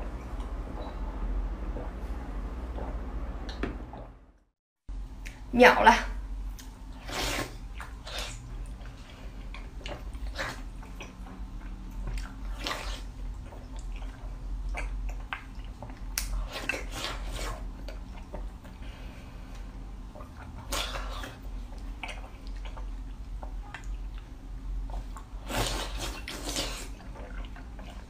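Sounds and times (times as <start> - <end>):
wet slurping and chewing: 0.3 - 3.3, 6.9 - 28.0.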